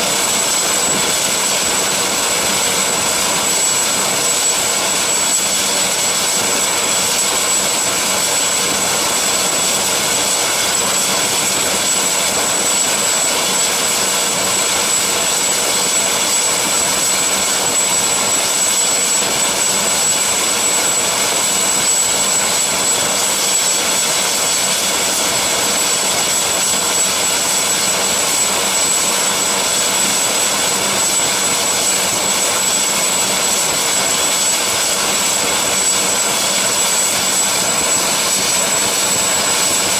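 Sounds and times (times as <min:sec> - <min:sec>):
helicopter turbine whine: 0:00.0 - 0:39.9
rushing rotor noise: 0:00.0 - 0:39.9.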